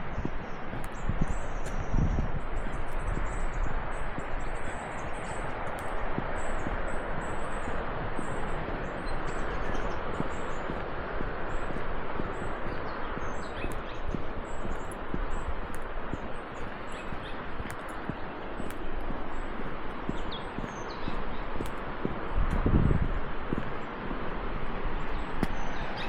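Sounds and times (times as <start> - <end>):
steady rushing hiss: 0.0 - 25.8
small birds chirping: 0.0 - 26.0.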